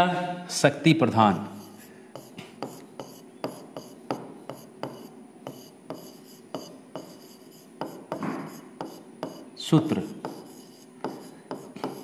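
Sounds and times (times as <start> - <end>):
stylus scratching stroke: 1.4 - 12.0.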